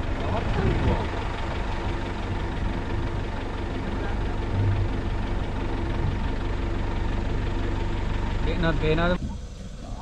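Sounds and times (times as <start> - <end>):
jeep engine running: 0.0 - 10.0.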